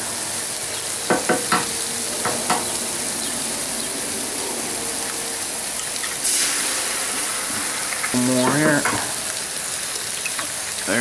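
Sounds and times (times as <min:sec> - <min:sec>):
food sizzling on griddle: 0:00.0 - 0:11.0.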